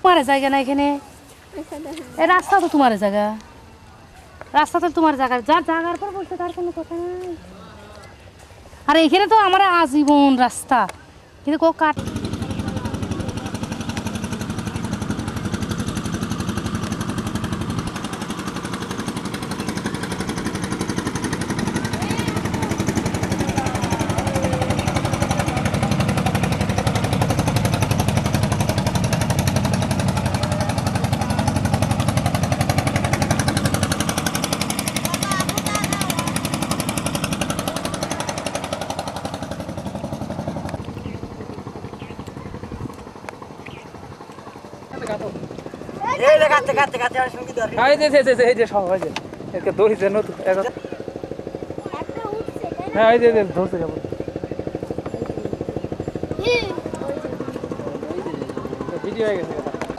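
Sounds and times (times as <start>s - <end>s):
small engine rattling: 11.8s - 59.9s.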